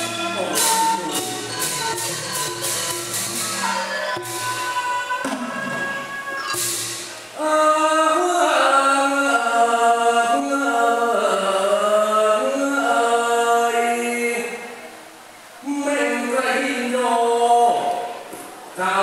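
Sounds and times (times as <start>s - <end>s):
person singing through microphone: 0.0s - 15.0s, 15.6s - 19.0s
folk theatre instrumental music: 0.0s - 15.6s.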